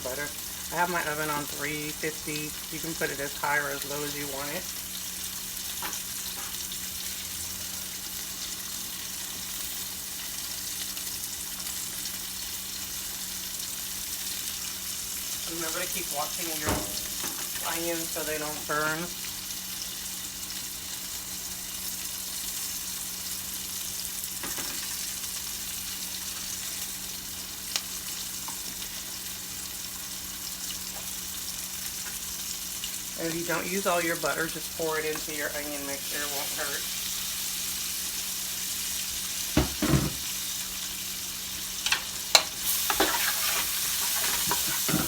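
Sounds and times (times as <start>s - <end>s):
onions sizzling in a pan: 0.0s - 45.0s.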